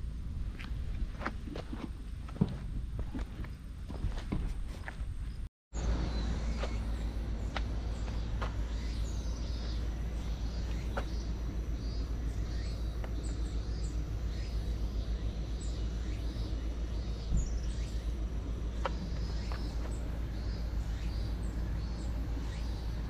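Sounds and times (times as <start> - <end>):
steady low rumble: 0.0 - 23.0
small birds chirping: 3.4 - 23.0.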